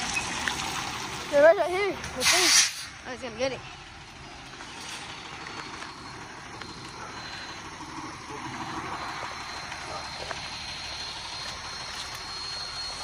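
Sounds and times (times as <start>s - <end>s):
garbage truck engine running: 0.0s - 13.0s.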